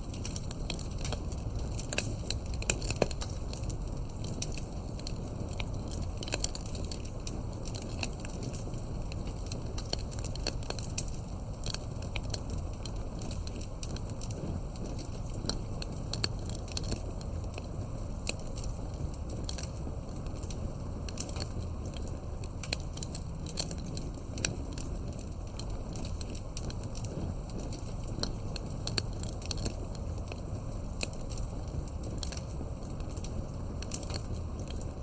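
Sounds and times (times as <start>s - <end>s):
campfire crackling and popping: 0.0s - 35.0s
low rumble of flames: 0.0s - 35.0s.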